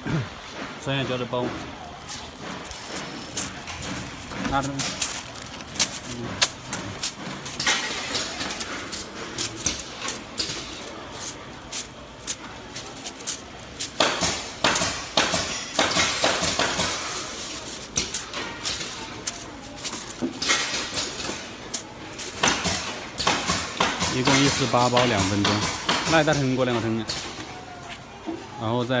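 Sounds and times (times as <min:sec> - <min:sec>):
packing machine clicking: 0:01.3 - 0:27.3.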